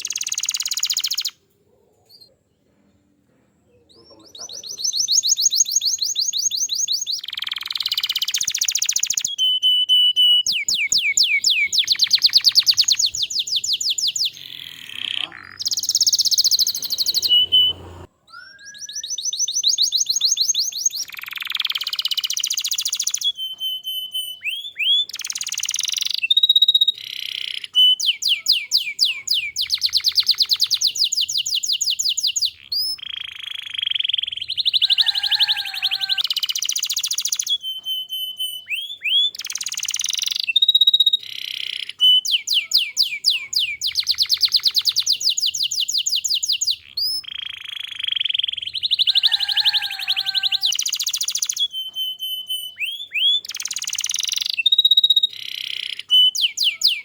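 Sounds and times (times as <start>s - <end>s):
canary singing: 0.0s - 1.4s, 3.7s - 57.0s.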